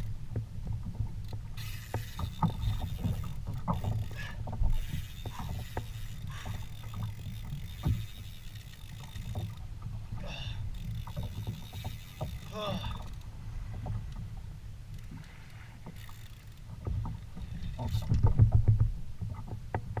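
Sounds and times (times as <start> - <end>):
boat knocks and clicks: 0.0 - 20.0
water and wind rumble: 0.0 - 20.0.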